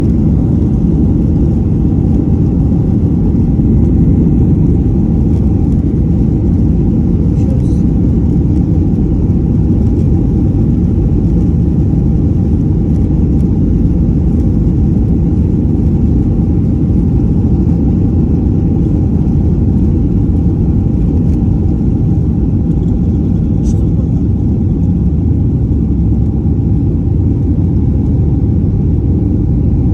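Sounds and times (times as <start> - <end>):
jet engines rumbling: 0.0 - 29.9.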